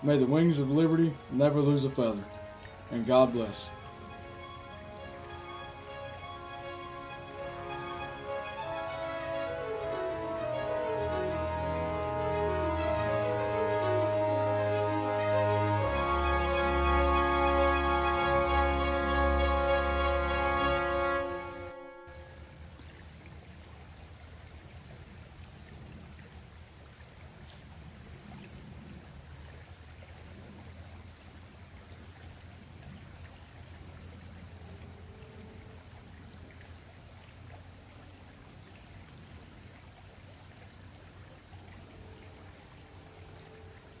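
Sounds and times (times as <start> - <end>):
flowing river water: 0.0 - 44.0.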